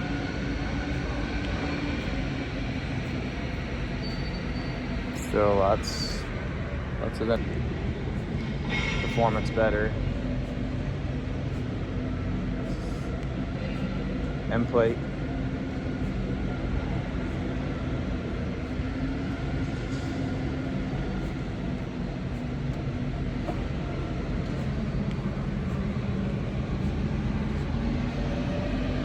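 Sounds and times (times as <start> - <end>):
machinery hum and rumble: 0.0 - 29.0.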